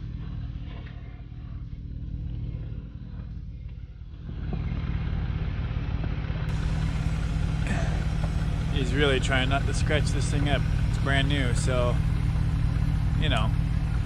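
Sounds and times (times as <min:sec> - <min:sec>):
off-road engine at low speed: 0:00.0 - 0:14.0.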